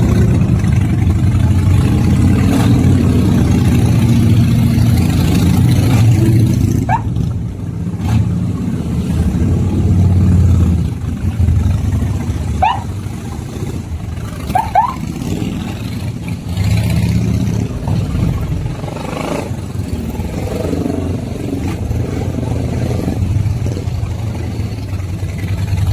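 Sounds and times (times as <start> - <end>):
motorcycle engine idling: 0.0 - 8.9, 9.5 - 16.6, 17.6 - 25.9.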